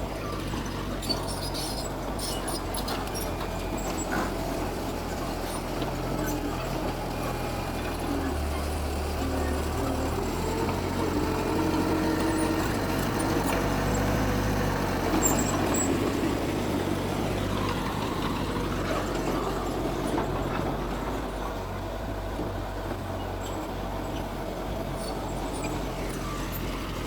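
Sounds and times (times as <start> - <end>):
diesel machinery engine drone: 0.0 - 27.0.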